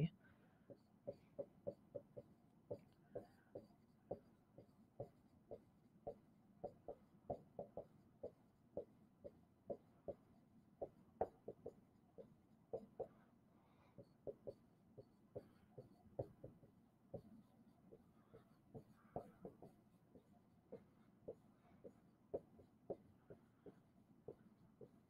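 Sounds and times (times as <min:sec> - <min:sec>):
stylus tapping while writing: 0:00.5 - 0:25.0.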